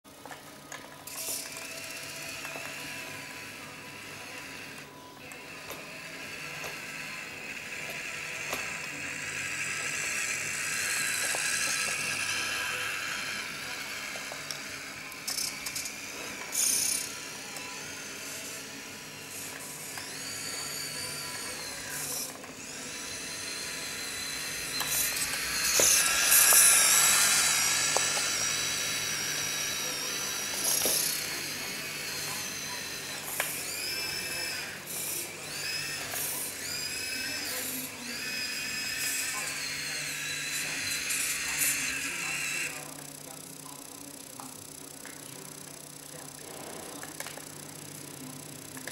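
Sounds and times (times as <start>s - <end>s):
toy tractor motor whirring: 0.2s - 48.9s.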